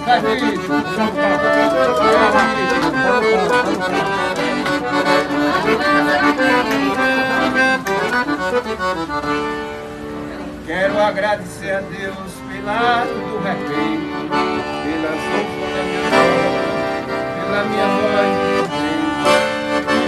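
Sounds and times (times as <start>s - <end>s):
accordion folk music: 0.0s - 20.0s.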